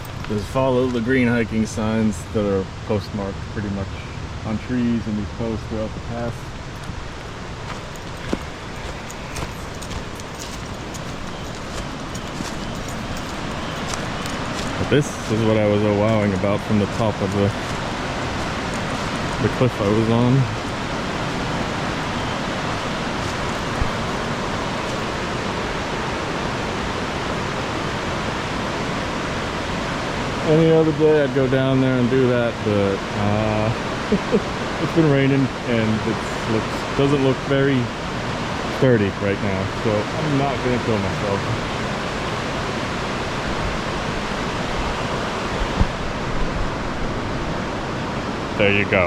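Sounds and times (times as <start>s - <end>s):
fast-flowing whitewater: 4.8s - 49.0s
river water rushing over rocks: 6.0s - 38.8s, 39.8s - 49.0s.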